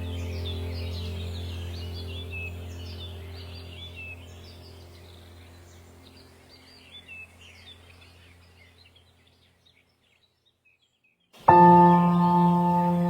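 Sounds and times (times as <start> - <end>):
low steady hum: 0.0 - 10.1, 11.4 - 13.0
songbirds chirping: 0.0 - 13.0.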